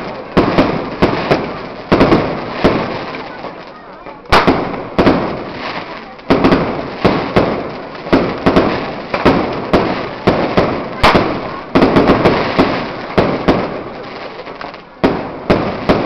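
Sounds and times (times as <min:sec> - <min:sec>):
fireworks bangs echoing: 0:00.0 - 0:16.0.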